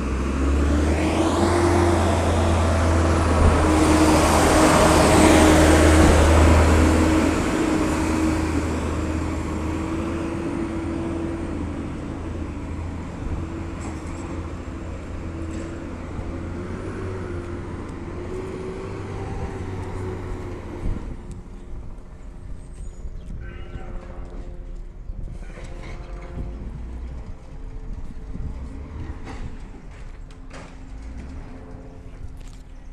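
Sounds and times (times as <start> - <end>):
garbage truck diesel engine: 0.0 - 24.0, 24.6 - 32.9.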